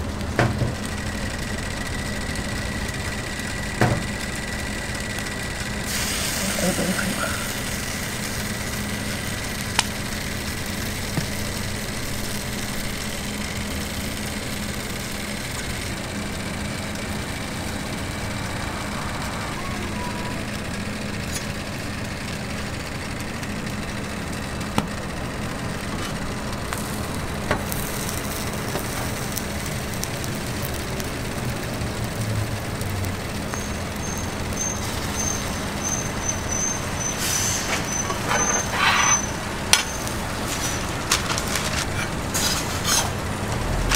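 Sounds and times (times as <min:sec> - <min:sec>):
griddle hiss and hum: 0:00.0 - 0:43.9.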